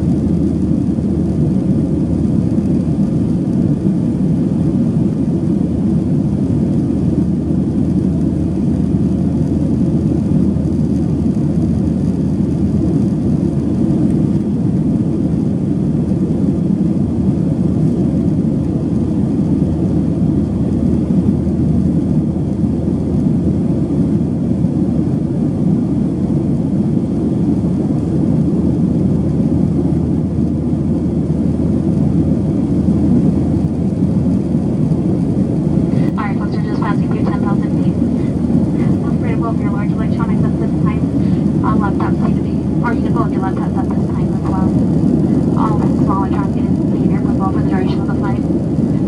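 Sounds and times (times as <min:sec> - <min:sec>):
airplane cabin engine noise: 0:00.0 - 0:49.0.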